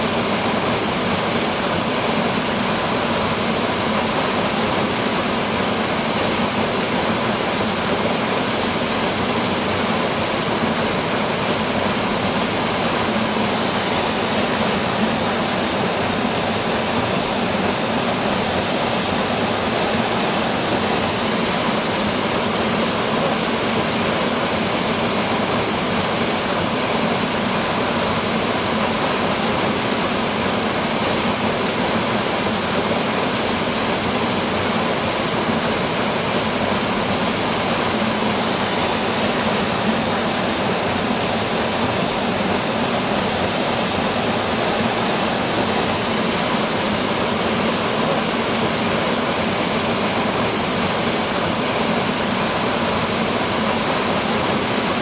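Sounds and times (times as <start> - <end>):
waterfall splashing into pool: 0.0 - 55.0.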